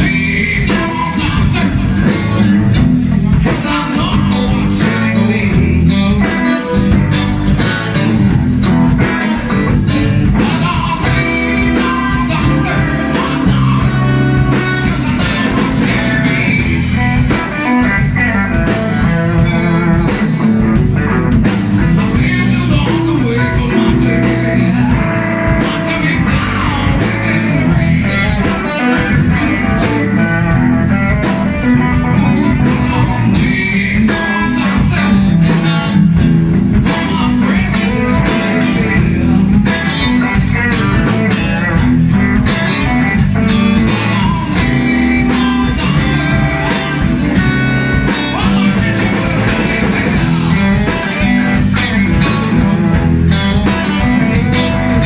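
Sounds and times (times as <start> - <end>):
live blues rock band: 0.0 - 55.0.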